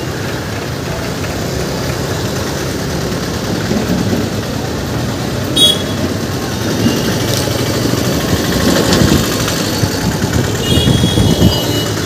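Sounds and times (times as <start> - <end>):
traffic on wet road: 0.0 - 12.0.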